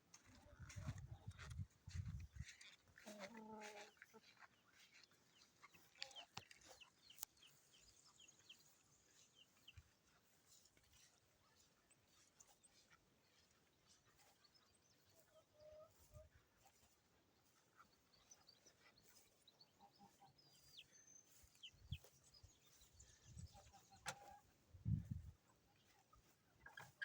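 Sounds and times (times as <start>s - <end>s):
chickens clucking: 0.1s - 27.0s.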